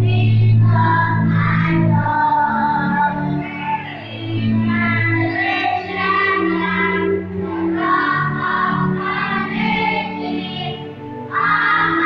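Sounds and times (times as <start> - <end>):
choir singing slow song: 0.0 - 12.0
low accompaniment: 0.0 - 12.0.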